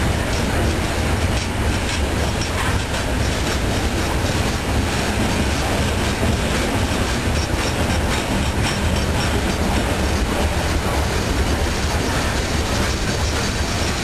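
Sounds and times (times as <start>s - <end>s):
freight train cars rumbling: 0.0s - 14.0s
wheels clacking over rail joints: 0.0s - 14.0s.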